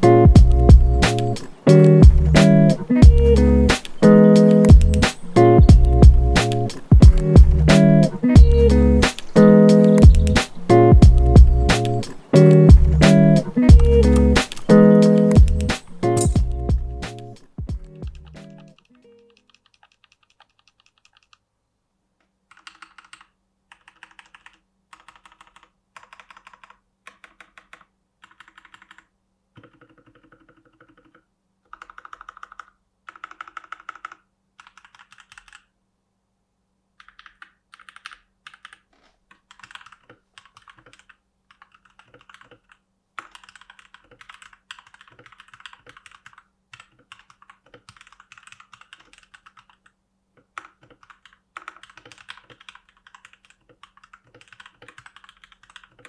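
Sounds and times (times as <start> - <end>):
mechanical keyboard typing: 0.0 - 21.4, 22.5 - 35.7, 37.0 - 56.0.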